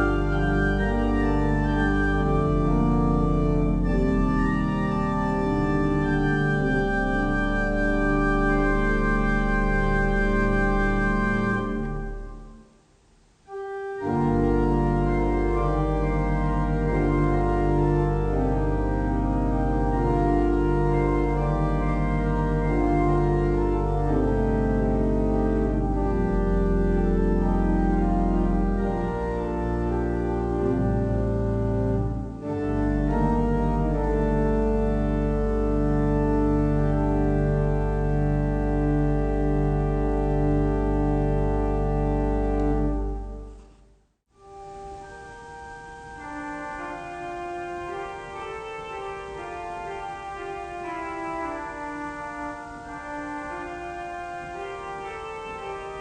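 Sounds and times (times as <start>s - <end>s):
pipe organ chords: 0.0s - 56.0s.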